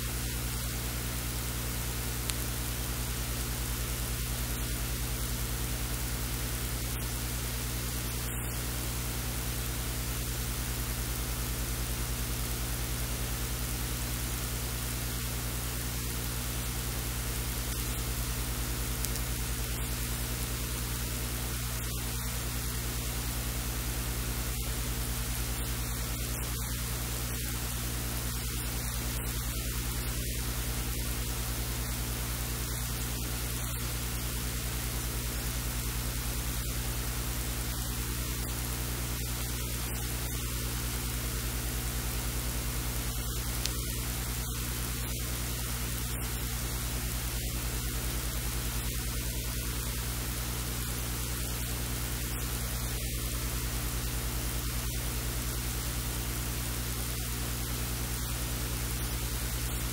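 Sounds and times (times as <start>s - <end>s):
low electrical hum: 0.0s - 59.9s
steady hiss: 0.0s - 59.9s.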